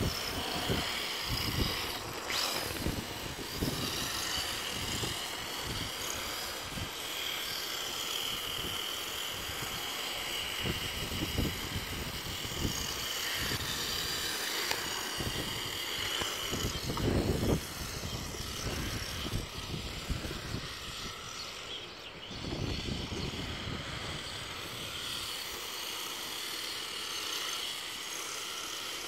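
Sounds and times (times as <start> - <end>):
toy car motor whining: 0.0 - 29.0.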